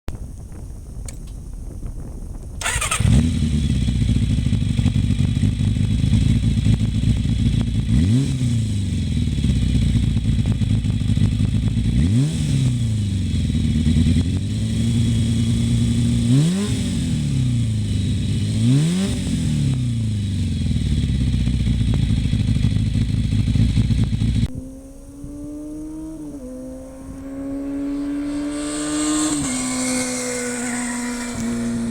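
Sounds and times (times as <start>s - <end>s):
motorcycle engine revving: 2.6s - 31.9s.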